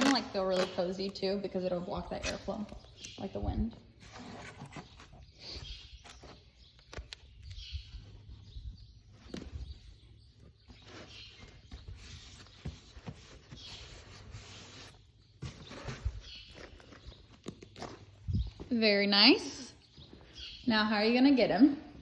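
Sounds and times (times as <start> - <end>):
rustling of nest material: 0.0 - 21.2.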